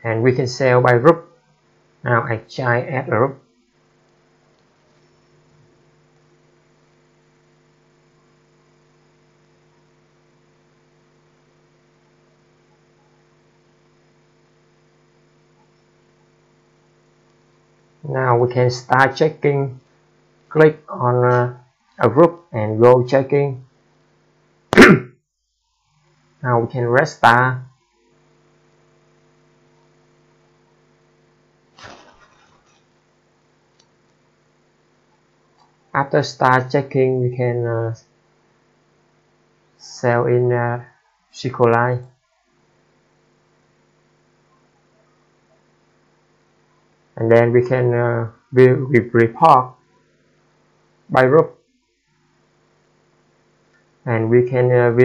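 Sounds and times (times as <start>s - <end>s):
faint electrical hum: 0.0s - 55.0s.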